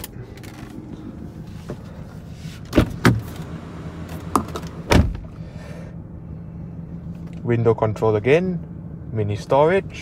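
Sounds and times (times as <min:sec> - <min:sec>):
low cabin hum: 0:00.0 - 0:10.0.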